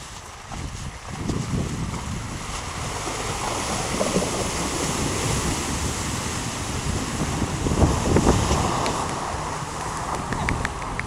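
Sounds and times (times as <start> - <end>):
water rushing and splashing: 0.0 - 11.0
wind buffeting microphone: 0.0 - 11.0.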